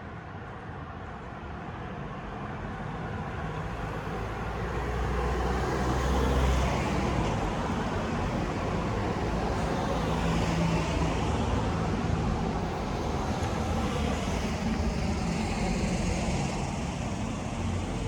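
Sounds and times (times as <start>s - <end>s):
traffic rumble: 3.4s - 18.0s.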